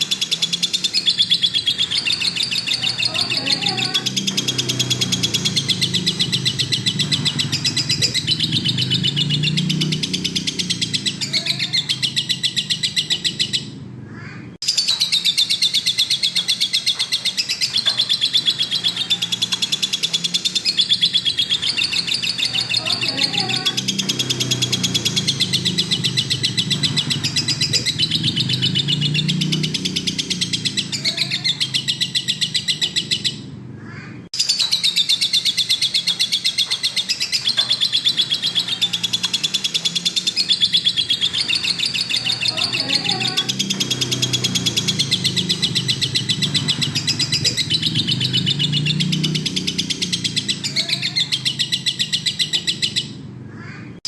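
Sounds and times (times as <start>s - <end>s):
lovebird chattering song: 0.0s - 33.5s, 34.4s - 53.8s.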